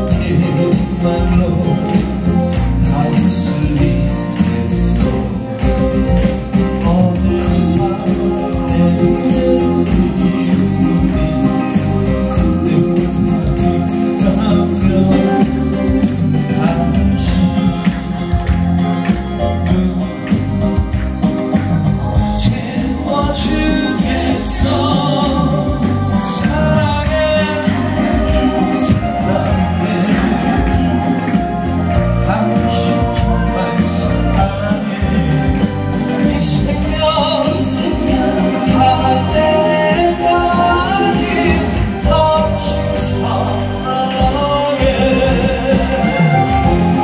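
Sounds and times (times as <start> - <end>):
man singing live: 0.0 - 47.0
recorded backing track: 0.0 - 47.0.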